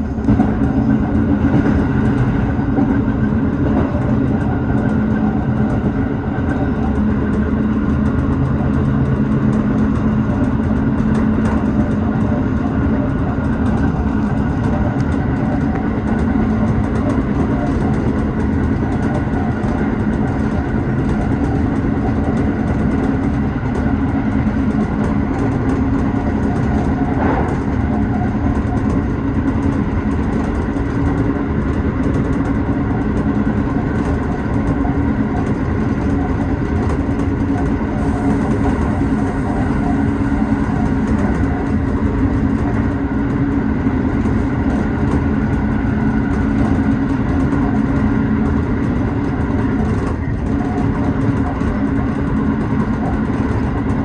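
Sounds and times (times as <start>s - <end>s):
electric train hum: 0.0s - 54.0s.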